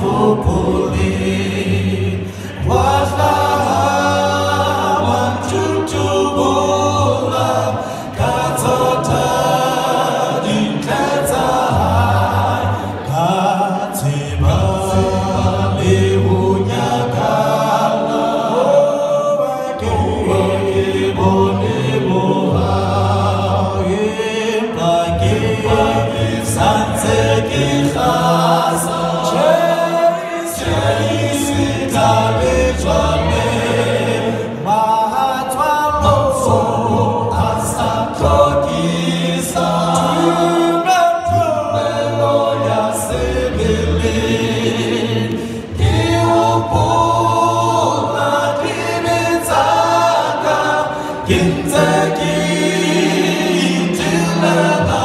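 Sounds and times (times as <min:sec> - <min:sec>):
male a cappella group singing: 0:00.0 - 0:55.0.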